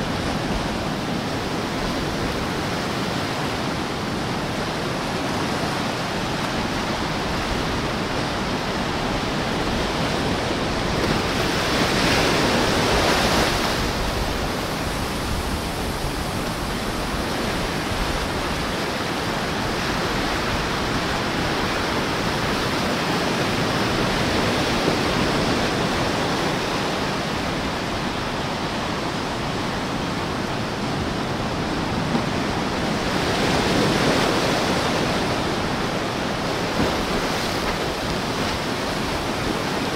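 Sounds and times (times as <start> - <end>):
small waves lapping on sand: 0.0 - 39.9.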